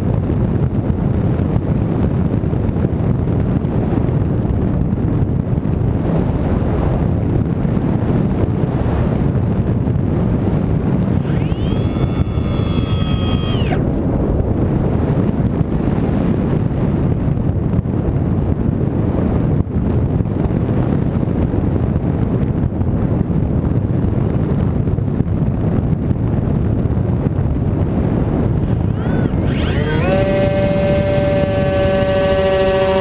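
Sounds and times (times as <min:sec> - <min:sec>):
wind rushing over microphone: 0:00.0 - 0:33.0.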